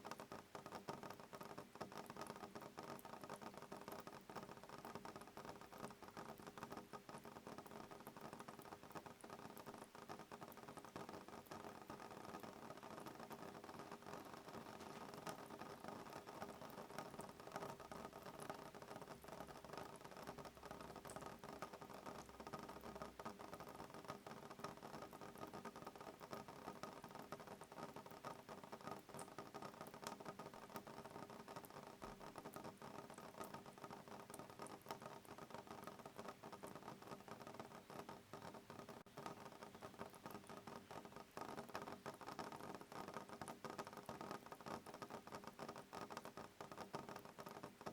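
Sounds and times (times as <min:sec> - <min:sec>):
soft rain on window glass: 0:00.0 - 0:47.9.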